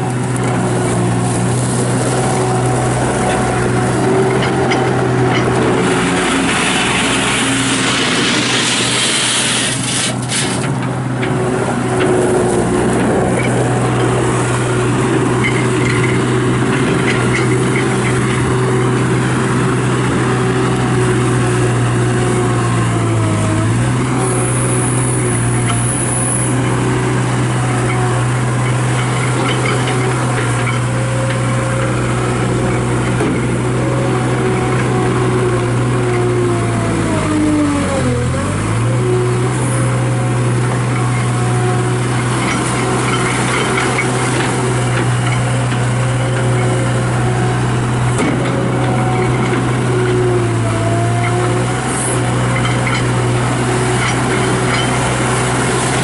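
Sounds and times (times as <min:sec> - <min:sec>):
loader diesel engine running: 0:00.0 - 0:56.0.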